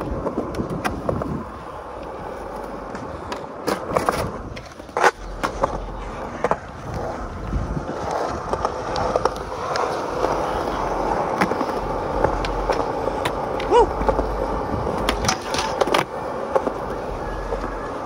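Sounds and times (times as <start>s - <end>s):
skateboard clacks: 0.0s - 18.0s
skateboard wheels rolling on concrete: 0.0s - 18.0s.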